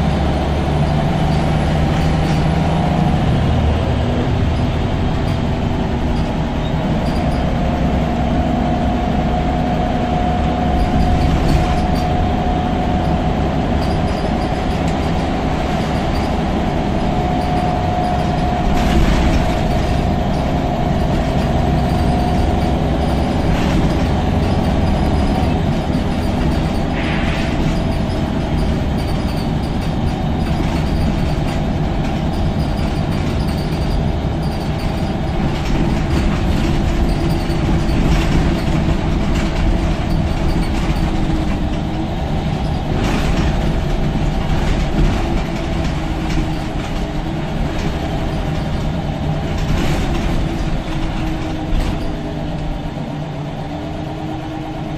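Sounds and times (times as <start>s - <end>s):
bus diesel engine rumbling: 0.0s - 54.9s
knocks and rattles of bus body: 0.0s - 54.9s
road noise: 0.0s - 54.9s.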